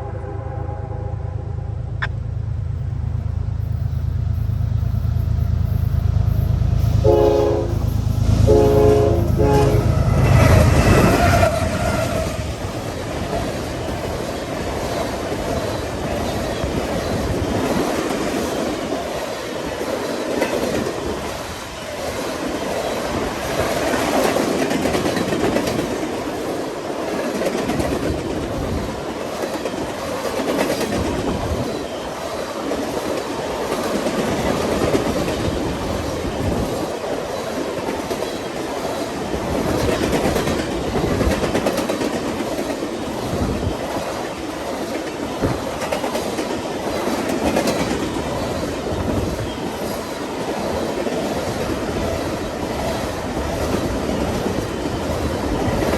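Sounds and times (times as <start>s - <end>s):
train wheels clattering on rails: 6.2s - 55.9s.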